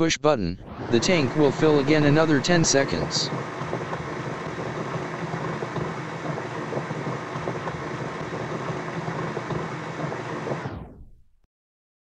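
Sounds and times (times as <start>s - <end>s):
water pouring into a tank: 0.9s - 10.6s.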